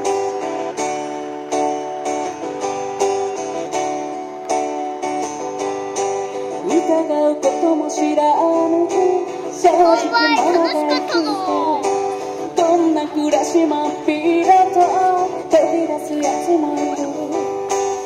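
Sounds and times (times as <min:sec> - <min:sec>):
strummed acoustic guitar song: 0:00.0 - 0:18.0.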